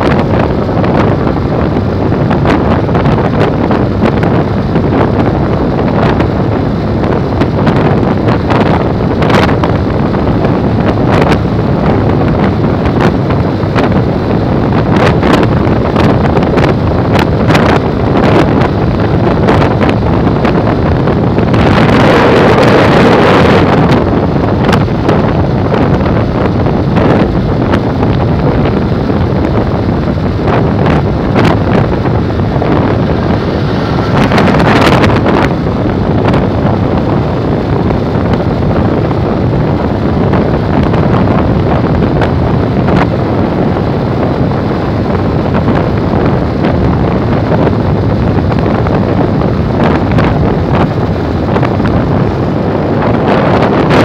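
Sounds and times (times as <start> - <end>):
motorcycle engine and road noise: 0.0 - 54.0
wind buffeting microphone: 0.0 - 54.0.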